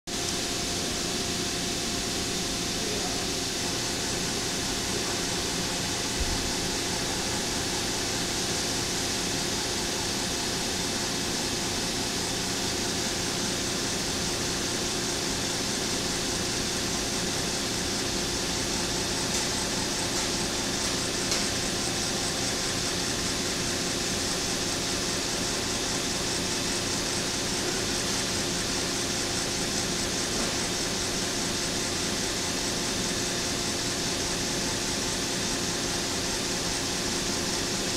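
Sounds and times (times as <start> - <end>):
valve actuator motor humming: 0.1 - 37.9.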